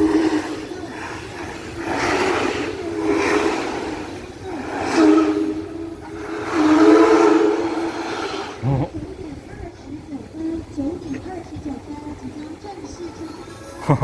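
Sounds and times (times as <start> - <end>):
steady low hum: 0.0 - 14.0
steam locomotive chuffing: 0.0 - 14.0.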